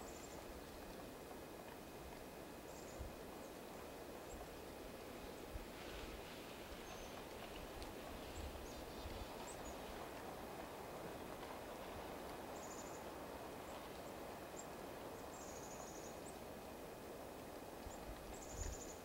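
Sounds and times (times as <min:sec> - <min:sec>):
low outdoor hiss: 0:00.0 - 0:19.0.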